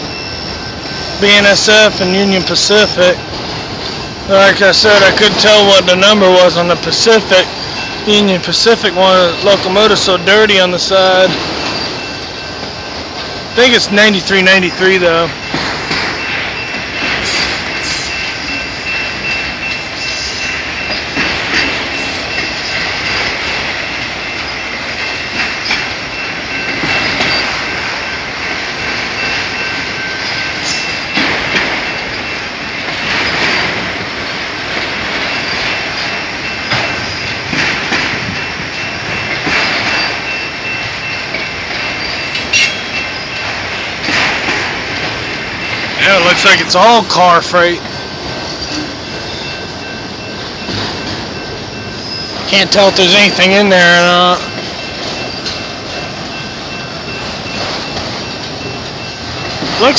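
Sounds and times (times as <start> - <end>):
freight train rumble and rattle: 0.0 - 59.9
wheel clacks over rail joints: 1.1 - 59.9.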